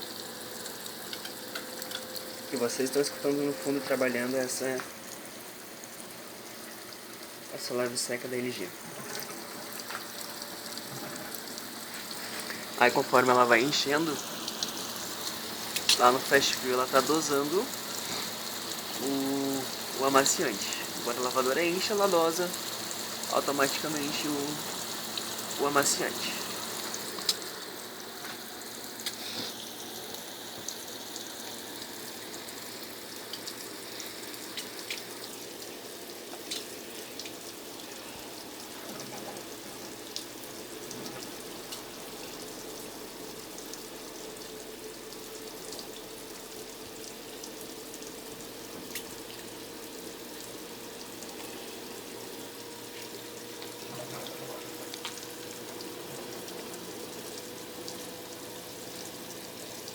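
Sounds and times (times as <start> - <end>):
washing machine filling with water: 0.0 - 59.9
water dripping: 0.0 - 59.9.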